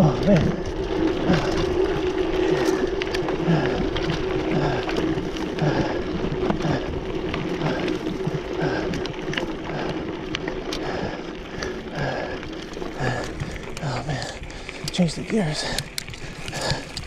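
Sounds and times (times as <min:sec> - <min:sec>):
bike rattling clicks: 0:00.0 - 0:17.0
wind and tyre noise: 0:00.0 - 0:17.0.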